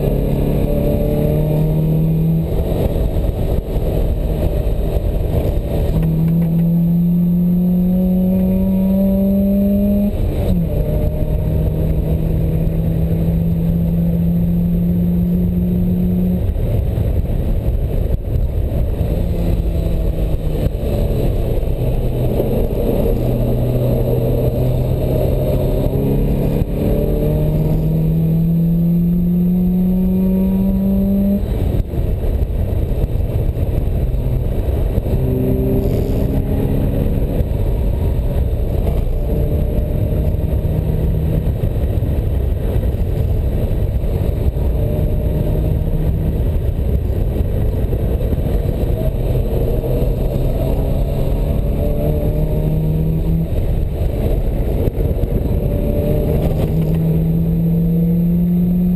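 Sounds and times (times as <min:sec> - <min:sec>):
sports car engine accelerating: 0:00.0 - 0:58.9
wind and road noise: 0:00.0 - 0:58.9.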